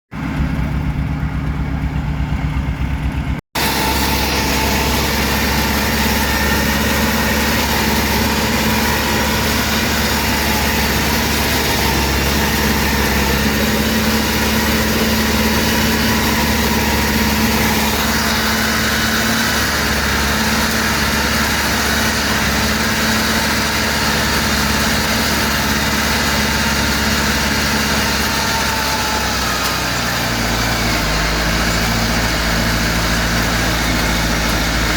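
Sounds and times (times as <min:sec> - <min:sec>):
heavy machine engine running: 0:00.1 - 0:34.9.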